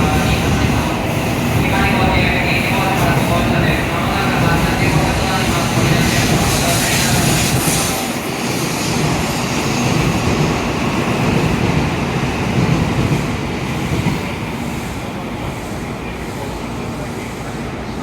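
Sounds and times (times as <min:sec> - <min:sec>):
train rushing past: 0:00.0 - 0:18.0.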